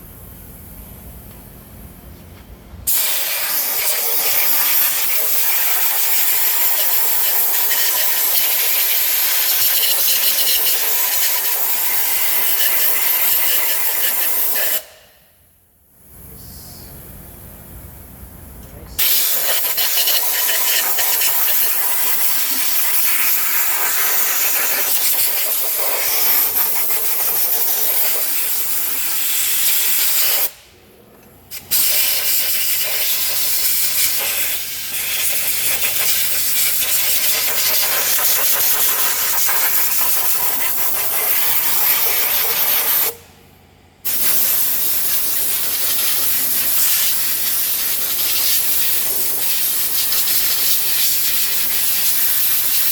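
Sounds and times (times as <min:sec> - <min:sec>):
high-pressure spray hissing: 0:02.9 - 0:15.0, 0:19.0 - 0:30.6, 0:31.6 - 0:43.2, 0:44.1 - 0:52.9.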